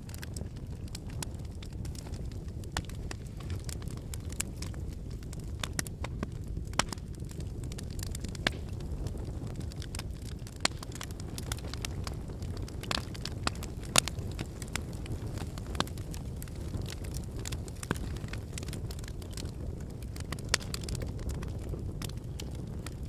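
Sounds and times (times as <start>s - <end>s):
firewood crackling and popping: 0.0s - 23.0s
flames rumbling: 0.0s - 23.0s.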